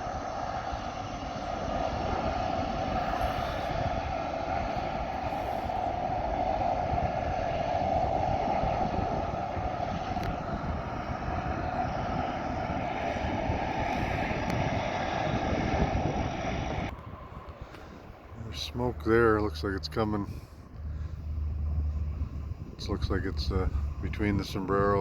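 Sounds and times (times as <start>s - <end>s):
aircraft engines whining: 0.0s - 25.0s
wind buffeting microphone: 0.0s - 25.0s.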